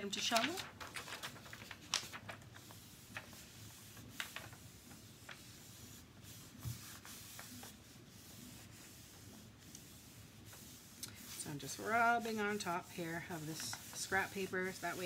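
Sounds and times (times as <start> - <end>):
paper rubbing: 0.2 - 15.0.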